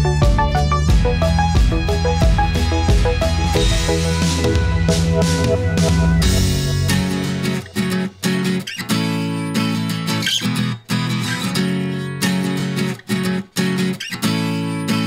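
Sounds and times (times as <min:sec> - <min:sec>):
strummed guitar music: 0:00.0 - 0:15.0.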